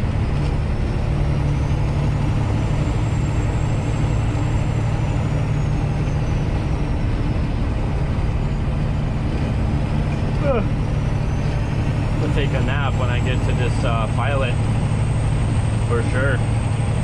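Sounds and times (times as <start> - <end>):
road noise: 0.0 - 17.0
truck diesel engine drone: 0.0 - 17.0.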